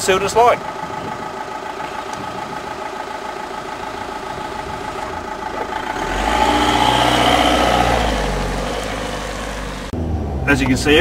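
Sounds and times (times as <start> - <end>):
diesel car engine idling: 0.0 - 11.0.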